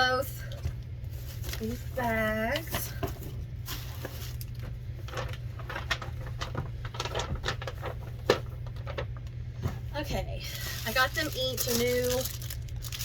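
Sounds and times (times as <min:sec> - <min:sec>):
steady low hum: 0:00.0 - 0:13.0
bags rustling and crinkling: 0:00.5 - 0:13.0.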